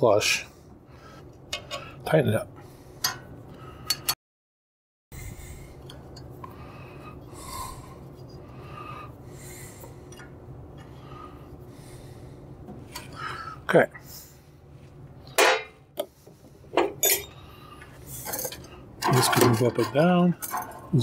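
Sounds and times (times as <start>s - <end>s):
low steady hum: 0.0s - 4.2s, 5.2s - 21.0s.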